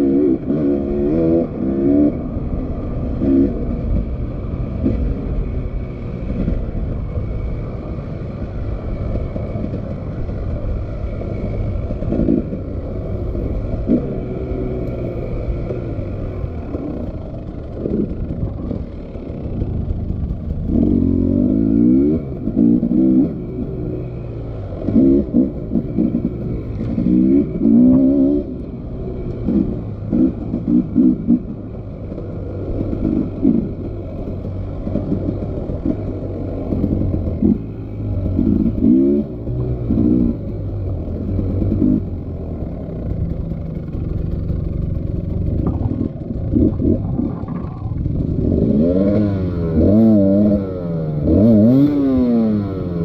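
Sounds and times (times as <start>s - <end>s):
motorcycle engine revving: 0.0s - 53.0s
motorcycle engine running: 0.0s - 53.0s.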